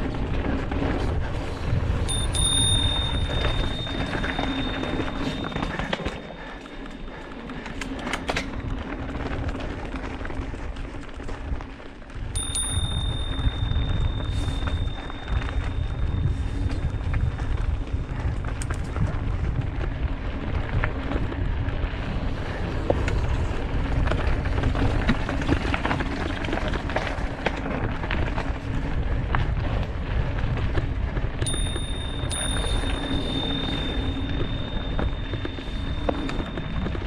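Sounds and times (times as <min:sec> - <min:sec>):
bike clicks and rattles: 0:00.0 - 0:37.0
wind buffeting microphone: 0:00.0 - 0:37.0.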